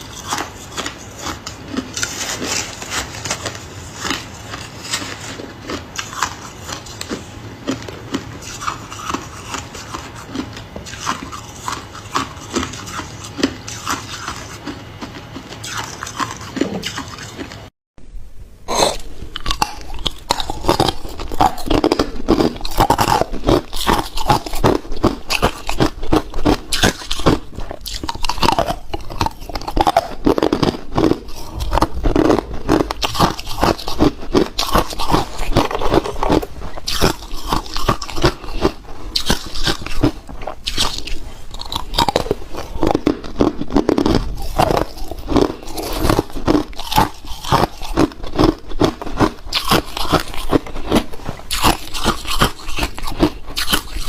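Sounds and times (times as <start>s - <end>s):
ice crunching between teeth: 0.0s - 17.6s, 18.7s - 54.0s.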